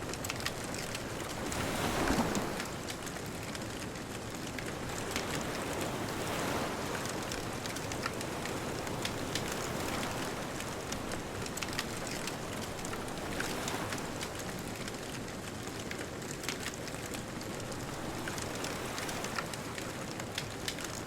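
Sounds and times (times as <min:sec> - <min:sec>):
bonfire crackling and popping: 0:00.0 - 0:01.9, 0:02.5 - 0:06.0, 0:06.9 - 0:21.0.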